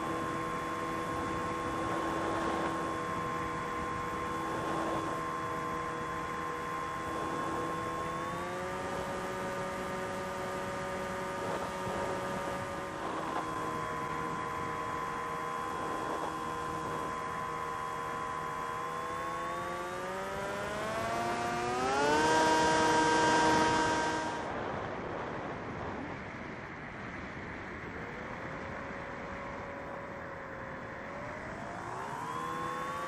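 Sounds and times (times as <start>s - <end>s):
drone motors whining: 0.0s - 24.5s, 31.0s - 33.0s.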